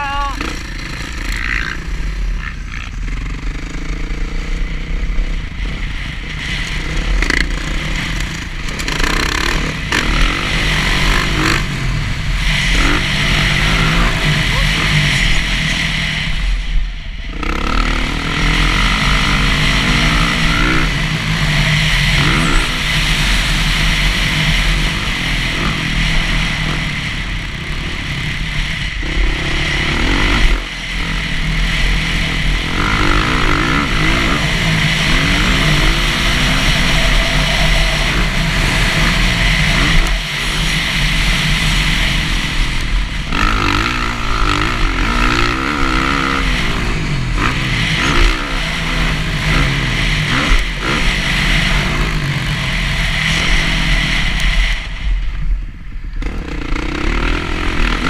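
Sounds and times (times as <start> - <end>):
dirt bike engine running hard: 0.0 - 58.0.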